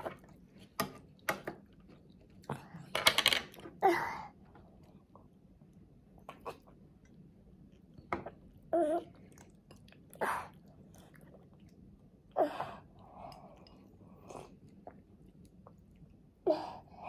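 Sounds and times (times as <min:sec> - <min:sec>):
toddler chewing and slurping soup: 0:00.0 - 0:17.0.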